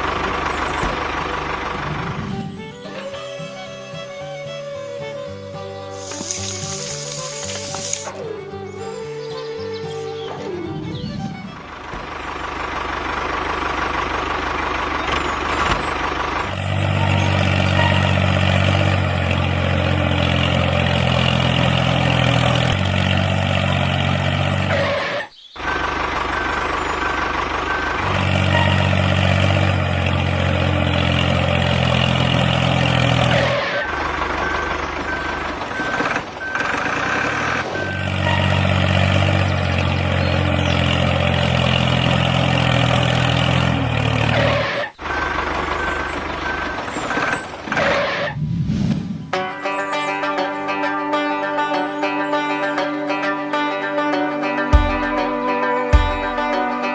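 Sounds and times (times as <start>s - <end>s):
heavy vehicle engine running: 0.0s - 51.7s.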